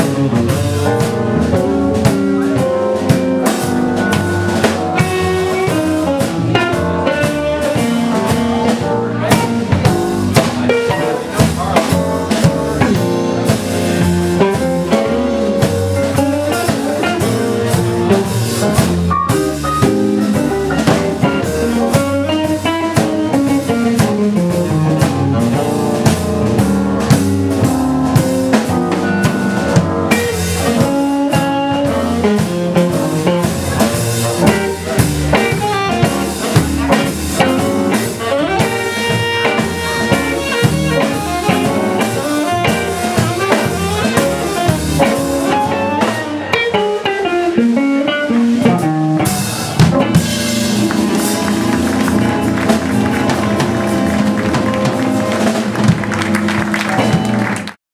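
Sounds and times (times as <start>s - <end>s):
live band playing: 0.0s - 57.8s.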